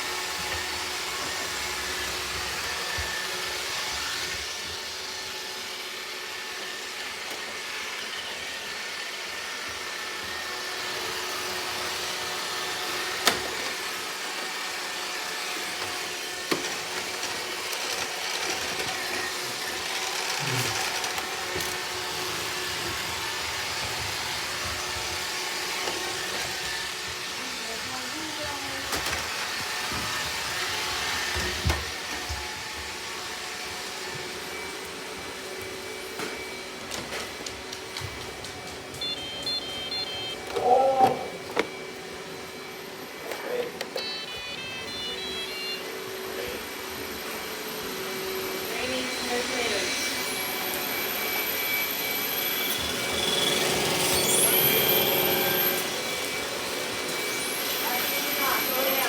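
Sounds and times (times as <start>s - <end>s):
robot vacuum running: 0.0s - 59.0s.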